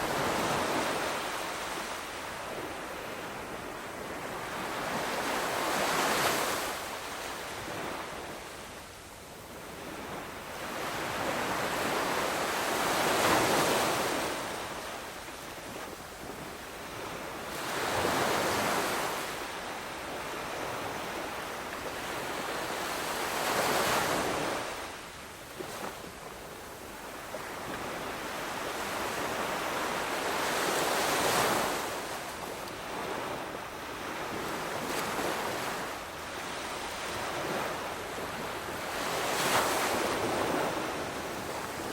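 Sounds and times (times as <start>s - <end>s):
sea waves breaking on shore: 0.0s - 8.8s, 9.4s - 41.9s.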